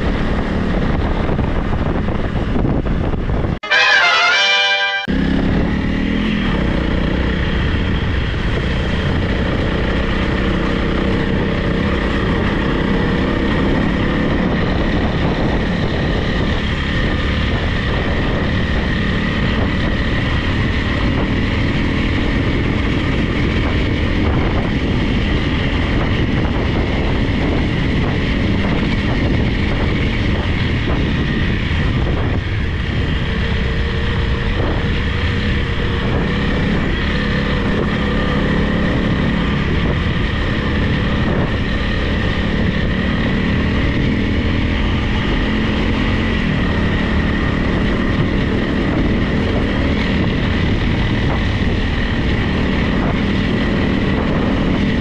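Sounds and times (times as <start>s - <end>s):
motorcycle engine running: 0.0s - 3.6s, 5.0s - 55.0s.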